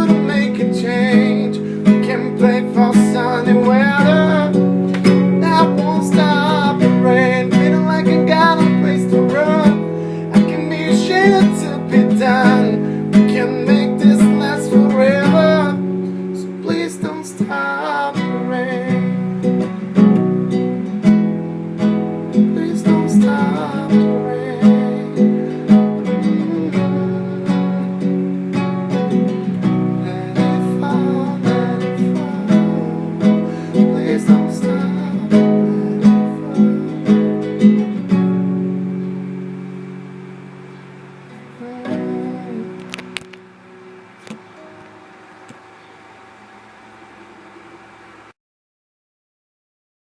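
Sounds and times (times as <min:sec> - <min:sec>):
acoustic guitar strumming: 0:00.0 - 0:48.3.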